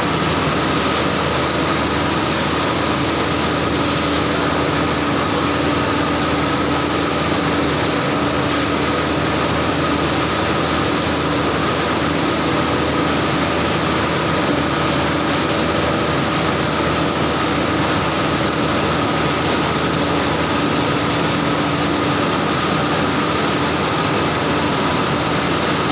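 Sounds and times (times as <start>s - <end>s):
machine humming steadily: 0.0s - 25.9s.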